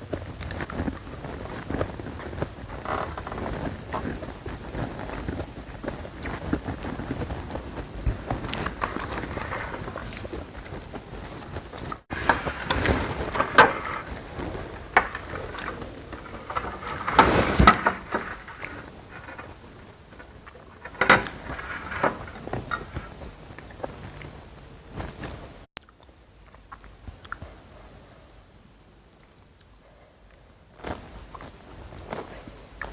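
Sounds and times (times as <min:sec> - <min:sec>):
person chewing crunchy food: 0:00.2 - 0:24.4, 0:25.0 - 0:27.6.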